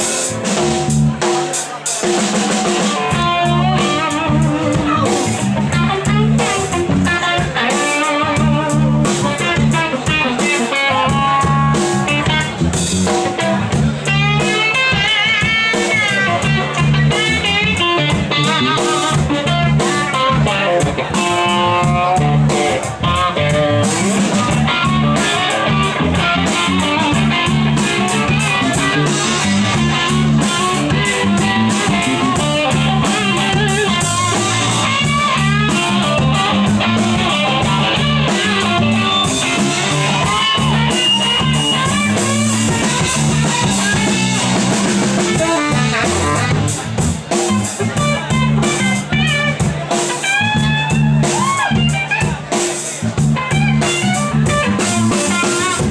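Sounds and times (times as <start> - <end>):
drum kit: 0.0 - 55.9
electric guitar: 0.0 - 55.9.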